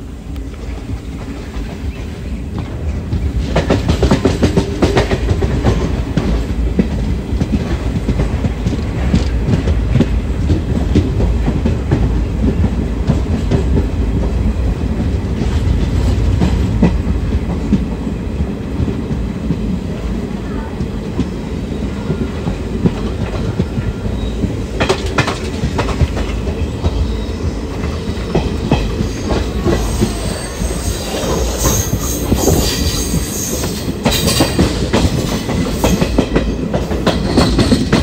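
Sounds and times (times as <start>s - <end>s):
train wheels rumbling: 0.0s - 38.0s
clickety-clack over rail joints: 0.3s - 38.0s.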